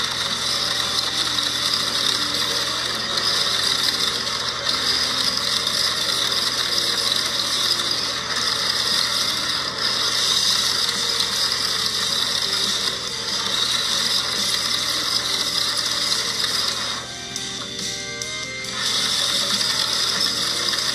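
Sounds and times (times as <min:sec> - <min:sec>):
plastic toy gears whirring: 0:00.0 - 0:20.9
toy cars rattling and scraping: 0:00.0 - 0:20.9.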